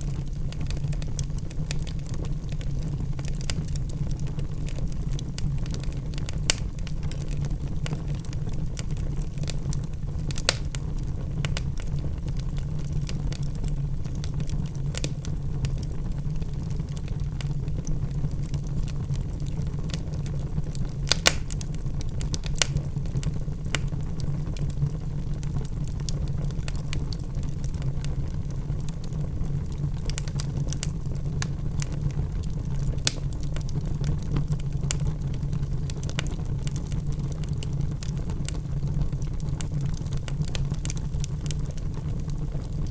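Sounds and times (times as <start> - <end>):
burning wood crackling and popping: 0.0 - 42.9
low rumble of flames: 0.0 - 42.9.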